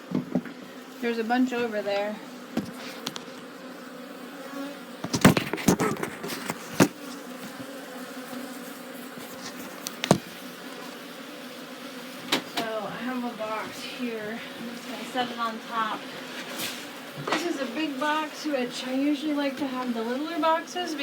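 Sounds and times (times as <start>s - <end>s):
bees humming: 0.0s - 21.0s.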